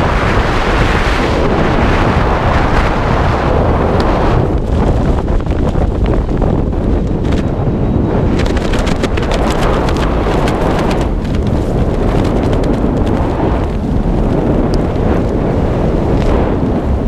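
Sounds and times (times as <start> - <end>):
crackling flutters: 0.0 - 17.0
wind buffeting microphone: 0.0 - 17.0.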